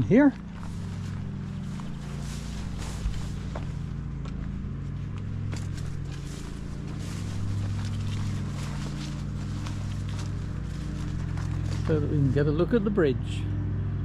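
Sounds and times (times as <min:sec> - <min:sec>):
footsteps on a path: 0:00.0 - 0:13.0
steady low hum: 0:00.0 - 0:14.0.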